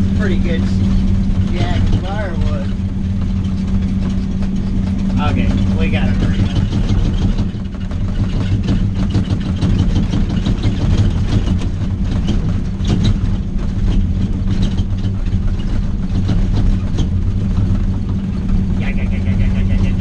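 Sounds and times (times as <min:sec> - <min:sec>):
knocks and rattles on gravel road: 0:00.0 - 0:20.0
vehicle engine running: 0:00.0 - 0:20.0.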